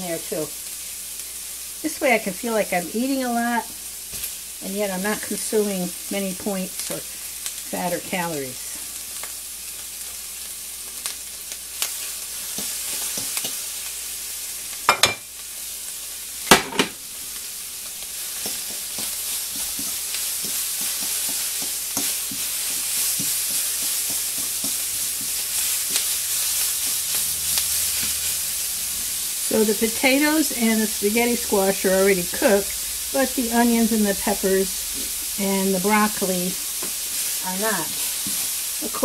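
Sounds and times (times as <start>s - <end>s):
vegetables sizzling in frying pan: 0.0s - 39.0s.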